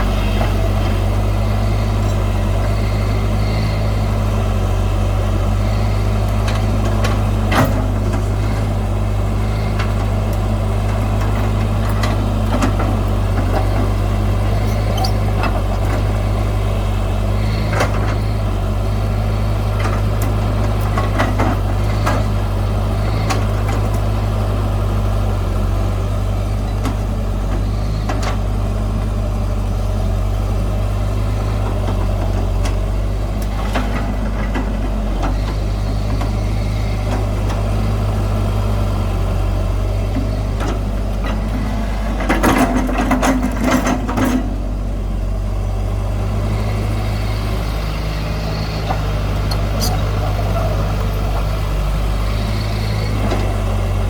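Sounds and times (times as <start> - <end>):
heavy machinery engine hum: 0.0 - 54.0.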